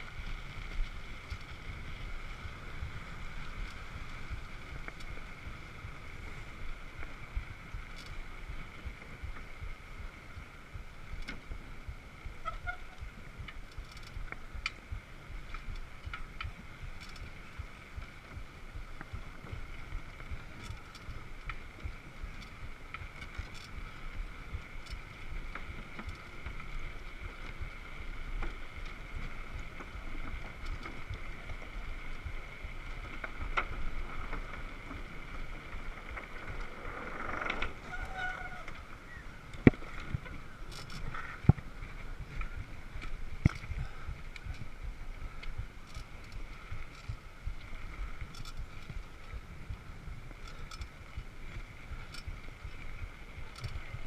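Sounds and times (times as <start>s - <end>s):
wind buffeting microphone: 0.0s - 54.0s
faint clicks: 0.5s - 54.0s.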